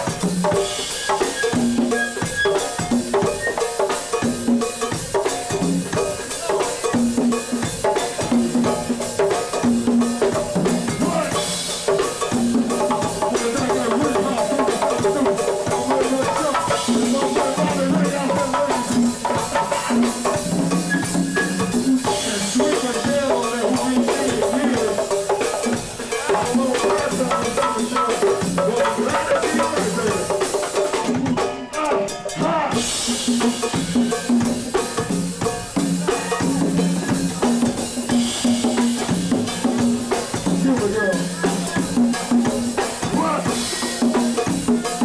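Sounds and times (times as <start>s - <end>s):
congas: 0.0s - 45.0s
drum kit: 0.0s - 45.0s.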